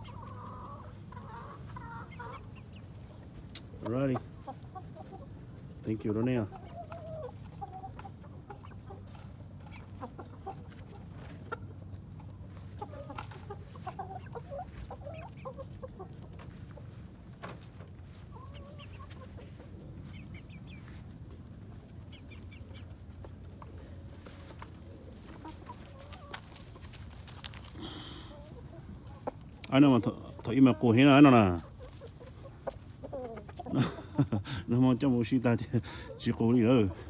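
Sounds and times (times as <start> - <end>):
roosters clucking: 0.0 - 37.0.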